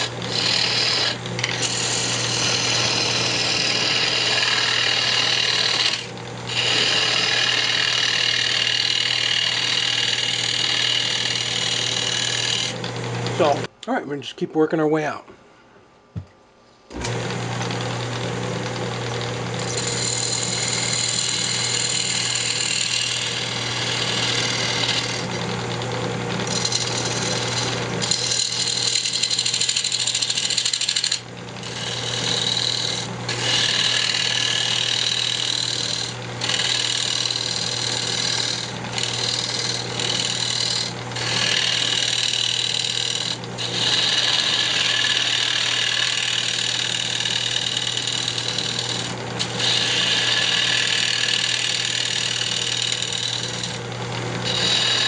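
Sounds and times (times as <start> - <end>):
tool cutting wood: 0.0 - 13.7, 16.9 - 55.0
wood lathe motor hum: 0.0 - 13.7, 16.9 - 55.0.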